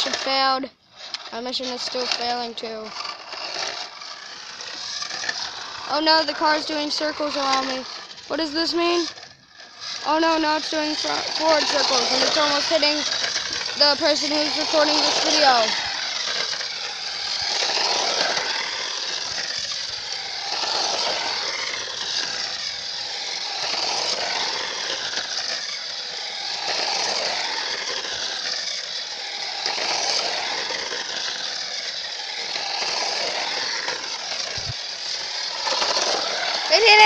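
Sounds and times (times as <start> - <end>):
toy car running over asphalt: 0.0 - 37.0.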